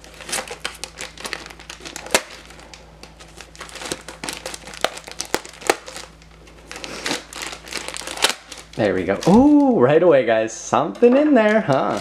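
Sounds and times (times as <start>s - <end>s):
plastic mailer crinkling: 0.0s - 9.8s, 11.4s - 12.0s.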